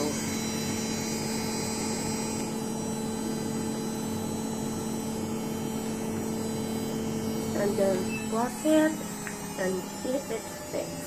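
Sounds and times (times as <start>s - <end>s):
faint whine: 0.0s - 11.0s
washing machine humming: 0.0s - 11.0s.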